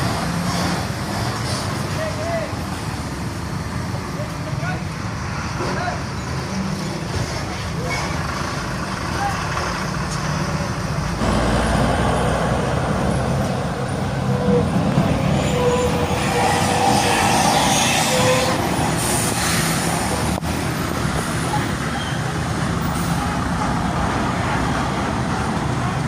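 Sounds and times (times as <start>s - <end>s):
trucks passing: 0.0s - 26.0s
tyre and road noise: 0.0s - 26.0s.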